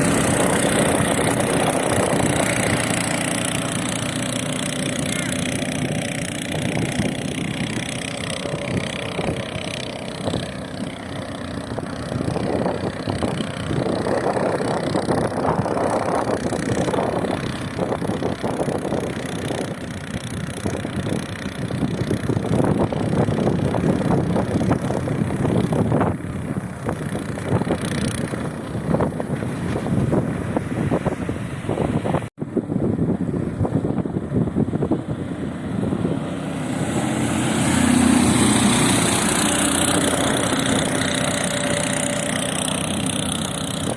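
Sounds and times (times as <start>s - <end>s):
boat motor running: 0.0s - 43.9s
wind on microphone: 0.0s - 43.9s.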